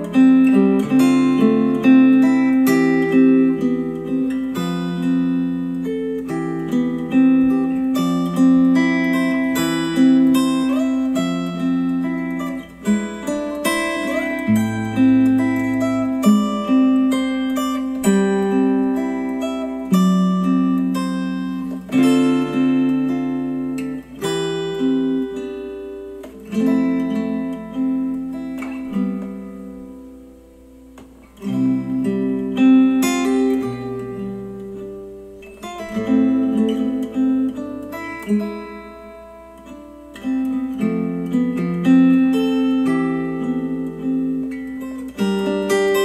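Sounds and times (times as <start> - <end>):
acoustic guitar music: 0.0 - 46.0.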